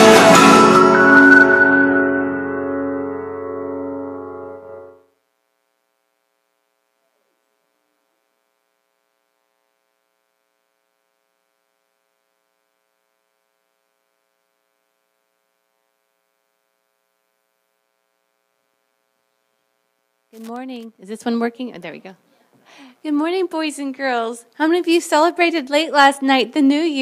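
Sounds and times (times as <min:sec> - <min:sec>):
faint electrical hum: 0:03.0 - 0:27.0.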